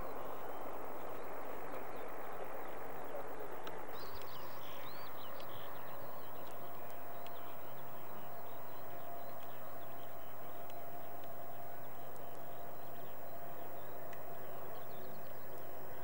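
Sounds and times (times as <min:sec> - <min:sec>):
faint steady hum: 0:00.0 - 0:16.0
small birds chirping: 0:00.0 - 0:16.0
steady hiss: 0:00.0 - 0:16.0.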